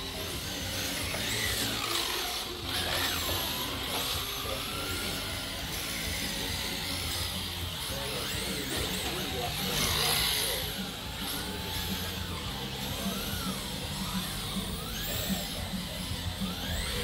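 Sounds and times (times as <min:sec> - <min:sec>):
rc car electric motors whining: 0:00.0 - 0:17.0.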